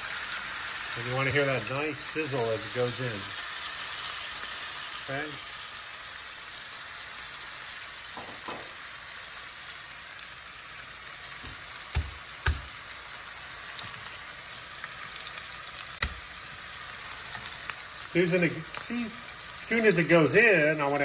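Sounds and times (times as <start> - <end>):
steak sizzling in a skillet: 0.0 - 21.0.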